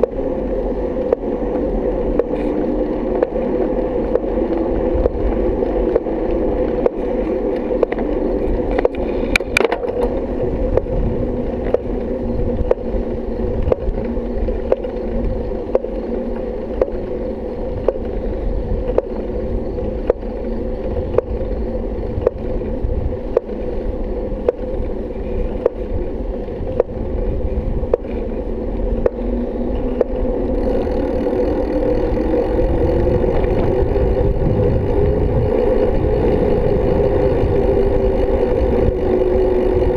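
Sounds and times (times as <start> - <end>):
hum rising in pitch: 0.0 - 39.9
muffled tyre and wind rumble: 0.0 - 39.9.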